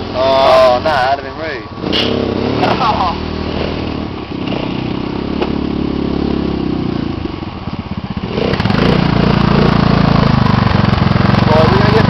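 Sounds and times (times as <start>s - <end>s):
small off-road vehicle engine: 0.0s - 12.0s.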